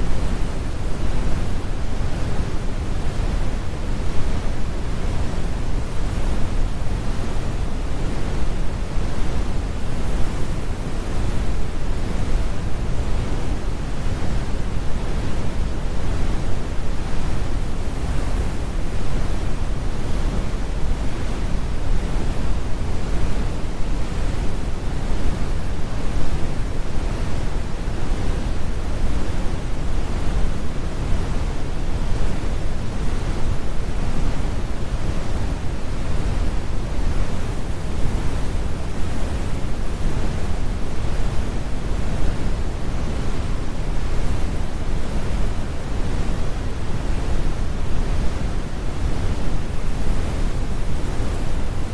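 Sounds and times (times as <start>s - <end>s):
brown noise: 0.0s - 51.9s.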